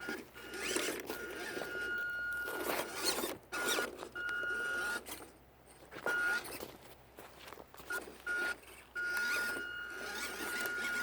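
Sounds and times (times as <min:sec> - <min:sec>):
small electric motor whining: 0:00.0 - 0:05.3, 0:06.0 - 0:06.6, 0:07.8 - 0:11.0.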